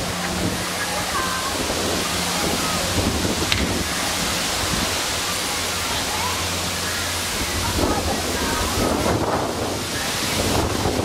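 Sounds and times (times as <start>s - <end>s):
distant children shouting: 0.0s - 10.6s
steady rushing hiss: 0.0s - 11.0s.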